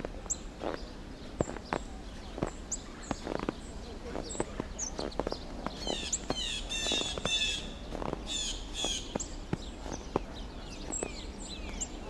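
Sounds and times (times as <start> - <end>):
footsteps in snow: 0.0 - 12.0
small birds chirping: 0.0 - 12.0.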